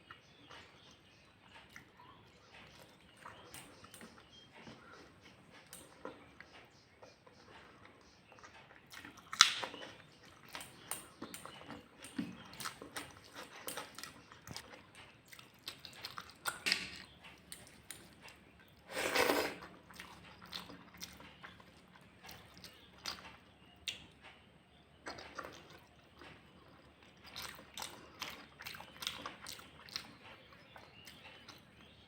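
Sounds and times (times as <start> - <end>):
person chewing: 2.6 - 24.3, 25.0 - 32.0.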